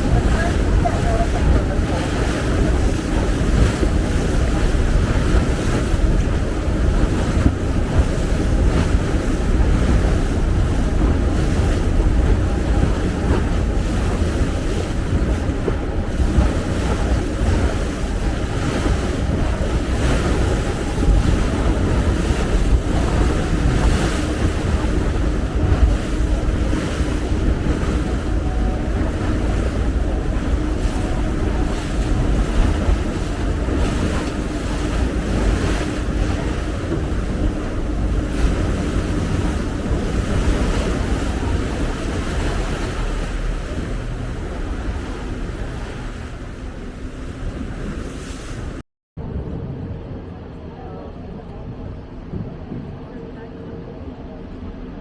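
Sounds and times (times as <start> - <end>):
boat engine hum: 0.0 - 55.0
water rushing past hull: 0.0 - 55.0
wind buffeting microphone: 0.0 - 55.0.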